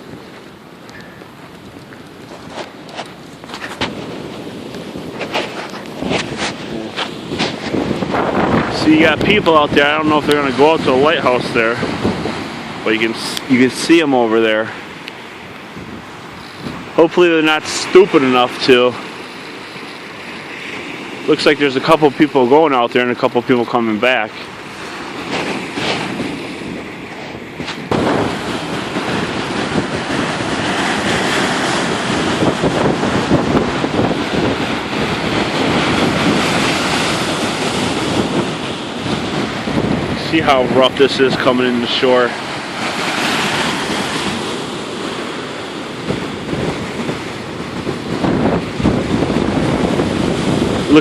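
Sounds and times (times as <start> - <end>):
wind buffeting microphone: 0.0 - 22.8, 24.4 - 51.0
surf breaking against shore: 0.0 - 51.0.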